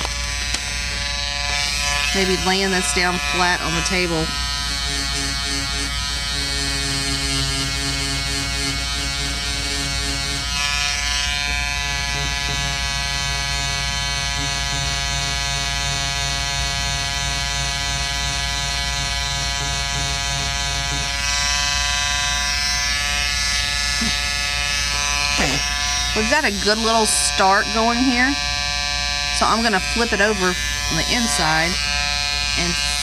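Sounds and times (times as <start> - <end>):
electric clipper humming: 0.0 - 33.0.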